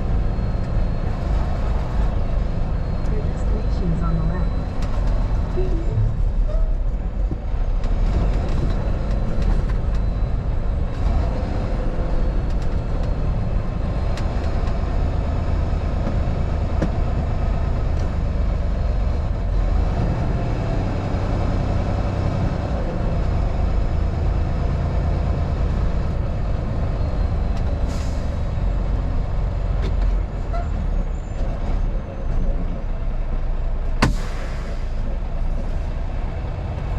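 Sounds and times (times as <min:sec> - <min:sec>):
vehicle engine and road noise: 0:00.0 - 0:36.9.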